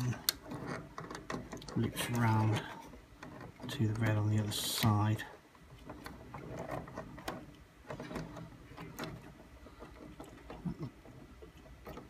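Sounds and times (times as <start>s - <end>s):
wires clicking and rustling: 0.0s - 12.0s.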